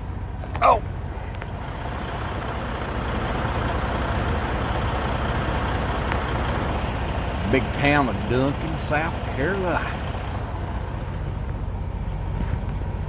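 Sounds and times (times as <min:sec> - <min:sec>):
diesel truck engine drone: 0:00.0 - 0:13.0
road noise: 0:00.0 - 0:13.0.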